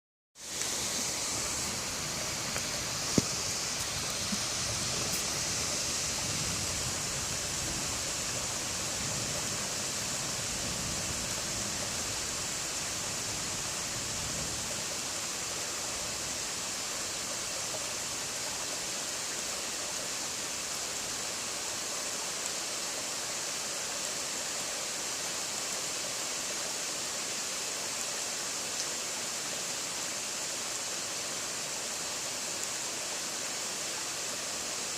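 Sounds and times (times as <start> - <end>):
outdoor night background hiss: 0.4 - 34.9.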